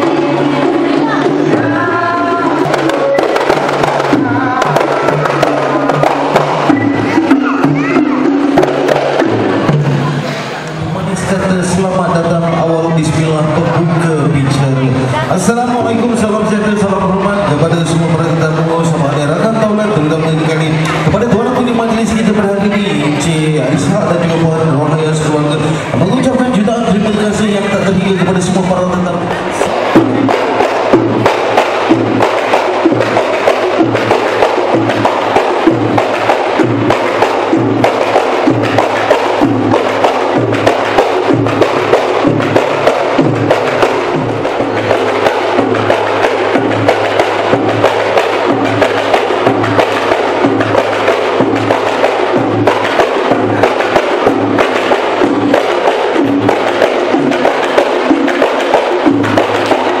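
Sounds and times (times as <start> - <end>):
music with busy percussion beat: 0.0 - 60.0.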